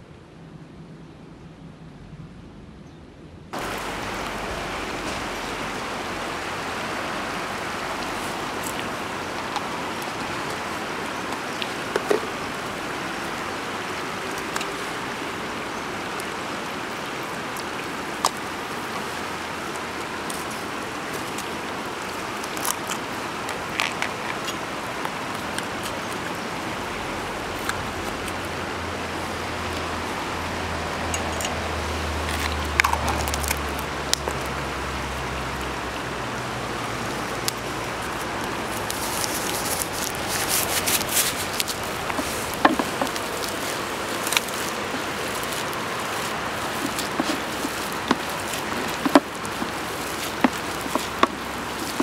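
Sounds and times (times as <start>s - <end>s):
river rushing over stones: 3.5s - 52.0s.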